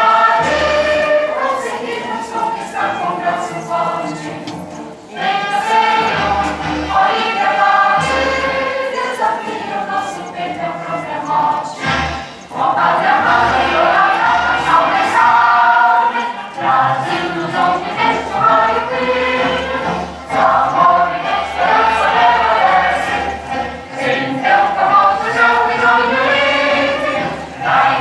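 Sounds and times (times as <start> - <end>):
background music: 0.0 - 28.0
choir singing: 0.0 - 28.0.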